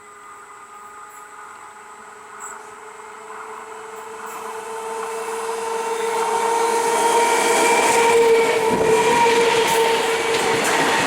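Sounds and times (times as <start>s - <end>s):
train running noise: 0.0s - 11.0s
train whine: 0.0s - 11.0s.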